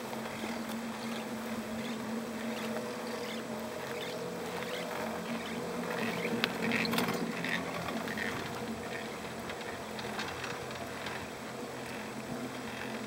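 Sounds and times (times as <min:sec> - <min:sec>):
chairlift mechanical hum: 0:00.0 - 0:13.0.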